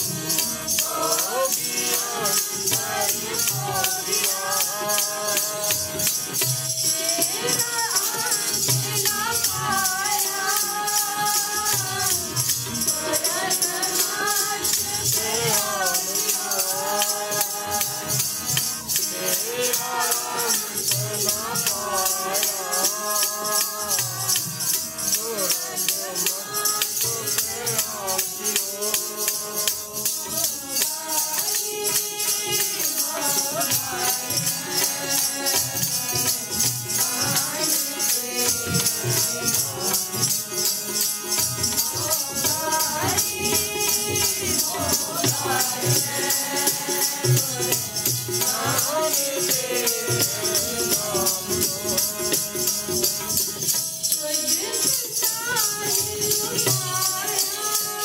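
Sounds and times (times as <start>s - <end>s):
devotional singing: 0.0s - 58.0s
jingling percussion rattle: 0.0s - 58.0s.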